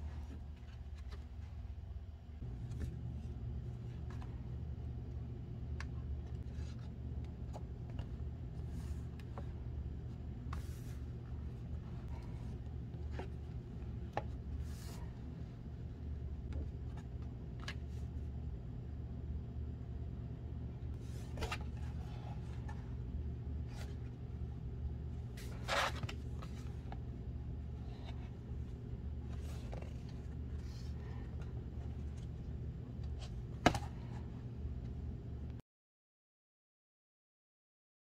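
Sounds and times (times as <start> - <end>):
steady low hum: 0.0 - 35.6.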